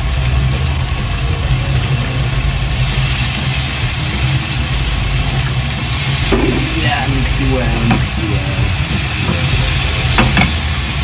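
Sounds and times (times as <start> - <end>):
skewers sizzling in a frying pan: 0.0 - 11.0
steady low hum: 0.0 - 11.0.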